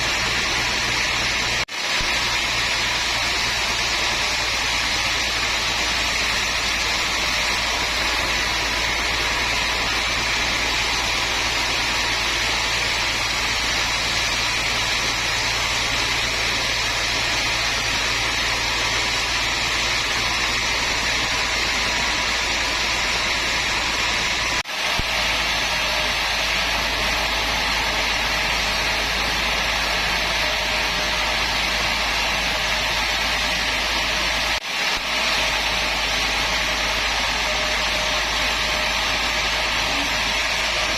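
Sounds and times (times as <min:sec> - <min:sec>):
woodworking machinery running: 0:00.0 - 0:40.9.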